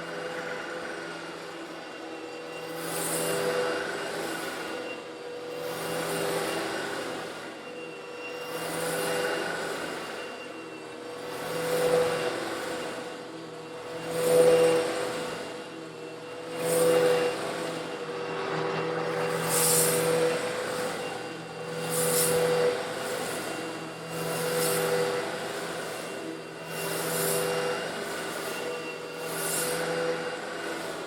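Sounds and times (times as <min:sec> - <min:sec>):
vacuum cleaner motor running: 0:00.0 - 0:31.0.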